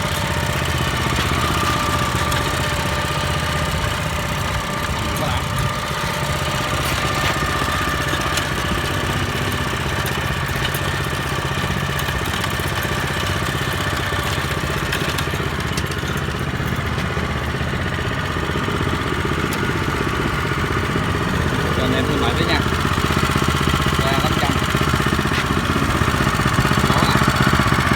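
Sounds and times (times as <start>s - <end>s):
small tiller engine running: 0.0s - 27.9s.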